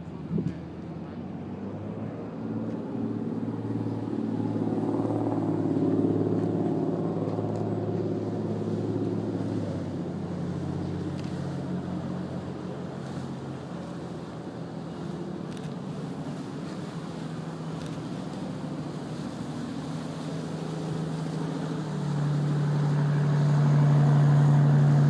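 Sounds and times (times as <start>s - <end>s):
motorboat engine passing: 0.0s - 25.0s.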